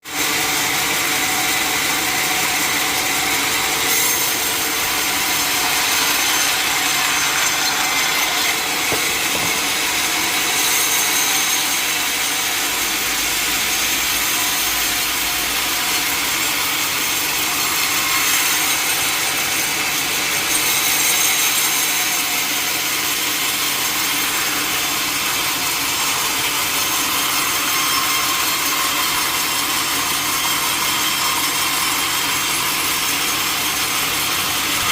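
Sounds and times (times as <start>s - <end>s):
sawmill saw cutting log: 0.1s - 34.9s.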